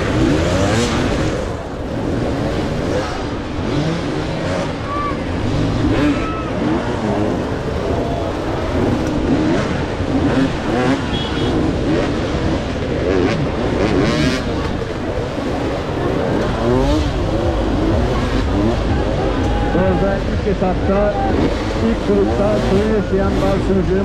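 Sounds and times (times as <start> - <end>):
motorcycles revving: 0.0 - 24.0.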